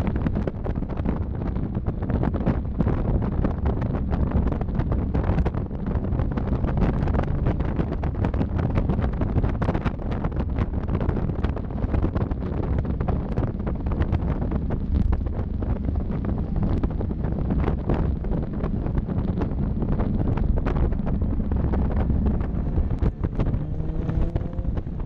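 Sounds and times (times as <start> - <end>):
car running noise: 0.0 - 25.0
wind buffeting microphone: 0.0 - 25.0.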